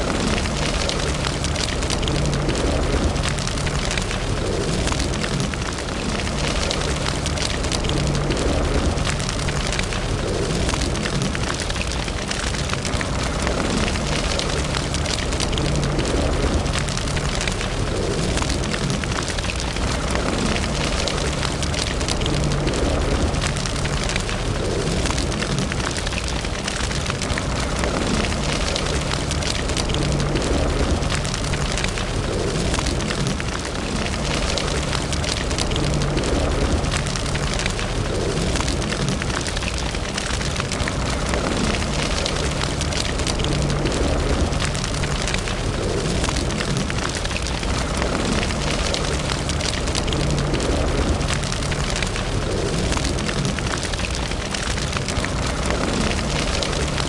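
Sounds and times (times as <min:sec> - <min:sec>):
low rumble: 0:00.0 - 0:57.0
wood fire crackling: 0:00.0 - 0:57.0.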